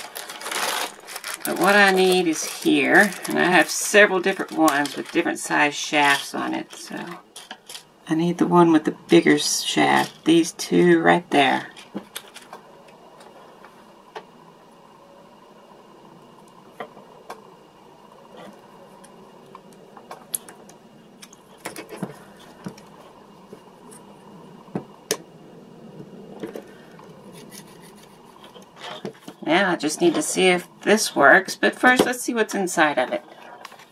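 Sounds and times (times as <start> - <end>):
faint room hum: 0.0 - 33.9.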